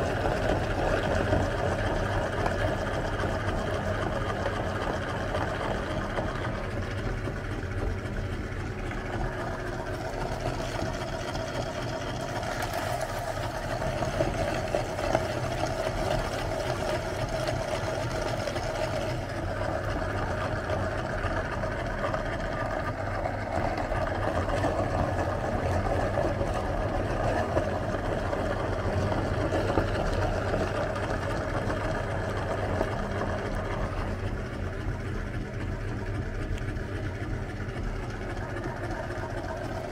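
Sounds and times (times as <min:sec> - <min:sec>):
electric meat grinder running: 0:00.0 - 0:35.6.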